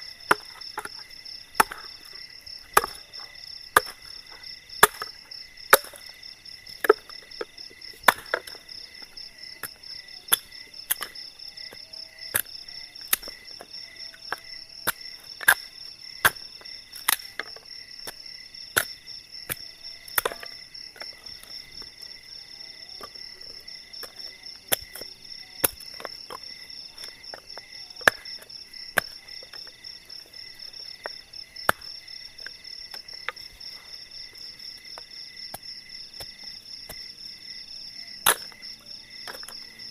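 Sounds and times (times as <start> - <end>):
wood being chopped by hand: 0.0 - 22.0, 23.0 - 29.8, 30.9 - 37.1, 38.2 - 39.8
insects trilling: 0.0 - 39.9.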